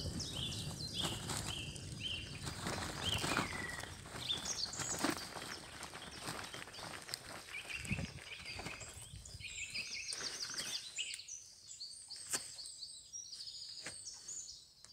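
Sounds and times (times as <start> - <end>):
songbirds singing: 0.0 - 14.9.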